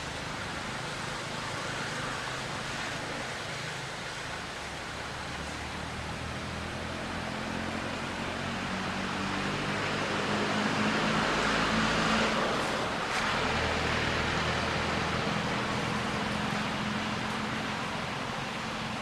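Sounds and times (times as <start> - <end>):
low engine hum: 0.0 - 19.0
vehicle passing: 0.0 - 19.0.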